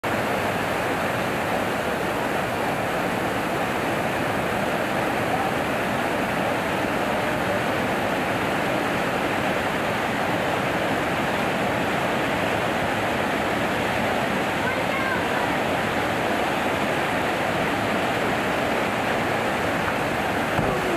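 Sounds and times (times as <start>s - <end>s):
water rushing over weir: 0.0s - 20.9s.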